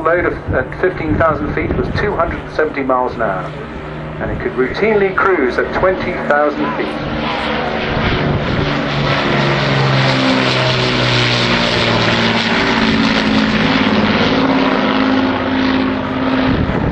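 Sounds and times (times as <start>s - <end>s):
propeller aircraft engines flying past: 0.0s - 16.9s.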